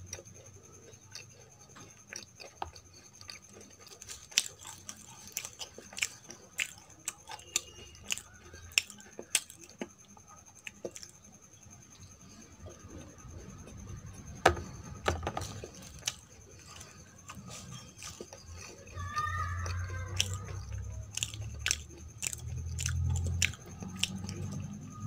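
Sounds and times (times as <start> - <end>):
chewing with wet mouth clicks: 0.0 - 11.3, 15.4 - 25.0.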